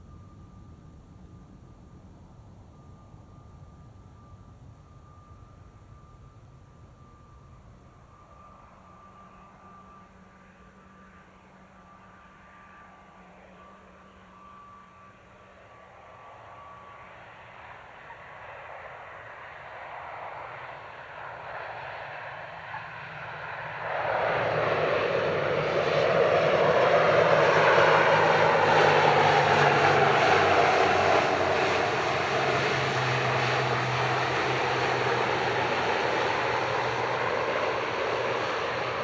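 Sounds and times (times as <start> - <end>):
jet engines at take-off power: 0.0 - 39.0.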